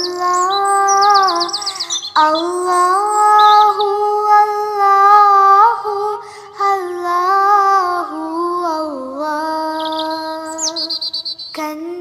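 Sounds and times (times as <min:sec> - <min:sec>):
person singing devotional chant: 0:00.0 - 0:12.0.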